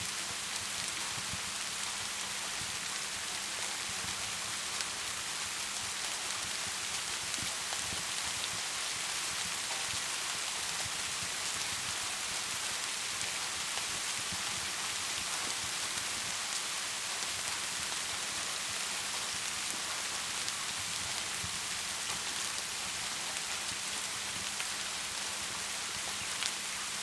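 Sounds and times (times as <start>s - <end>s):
steady rain falling: 0.0s - 27.0s
wood fire crackling: 0.0s - 27.0s.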